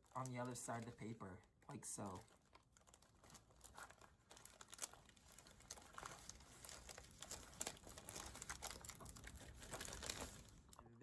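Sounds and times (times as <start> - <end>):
plastic and paper crinkling: 0.0 - 10.8.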